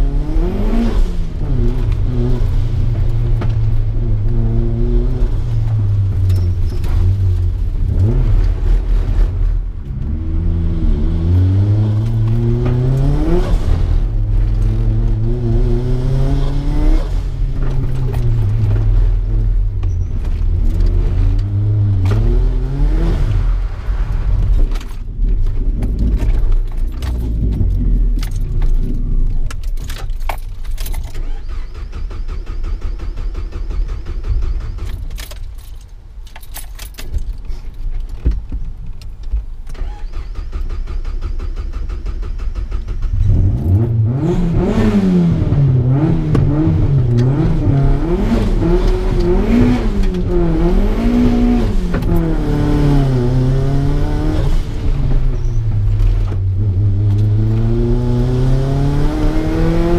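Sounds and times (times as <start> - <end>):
car engine revving: 0.0 - 30.0, 40.1 - 59.9
clicks and rattles inside car: 0.6 - 23.1, 24.0 - 59.9.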